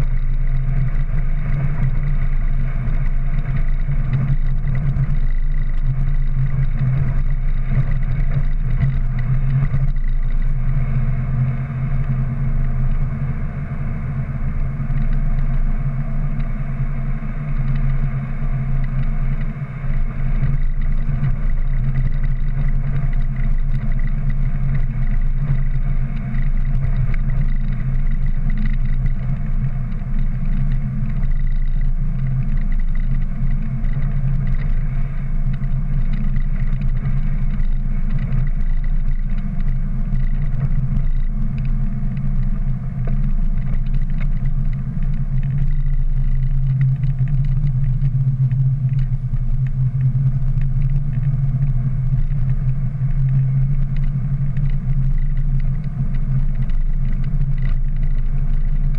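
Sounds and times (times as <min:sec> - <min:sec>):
engine and road noise drone: 0:00.0 - 0:58.9.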